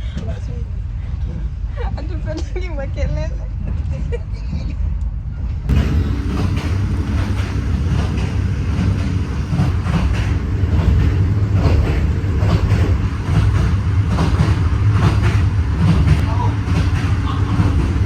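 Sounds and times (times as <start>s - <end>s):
train rumbling from inside coach: 0.0s - 18.0s.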